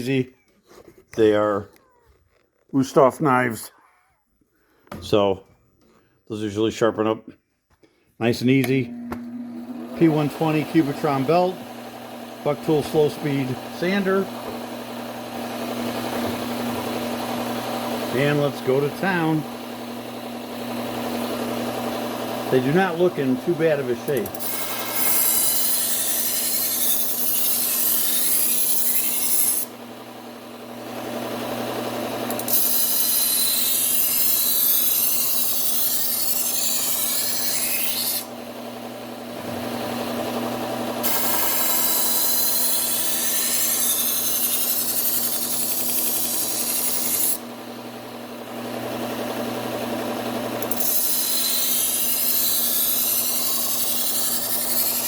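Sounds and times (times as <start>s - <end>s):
belt sander motor hum: 8.6s - 55.0s
knife grinding on belt sander: 8.6s - 55.0s.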